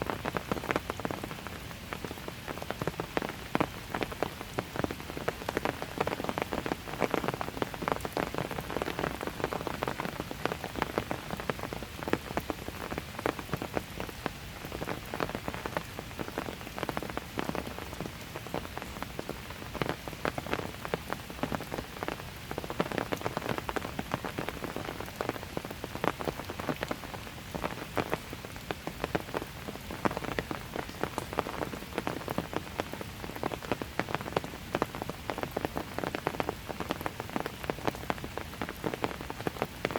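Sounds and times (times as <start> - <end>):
light rain on hard surfaces: 0.0 - 39.9.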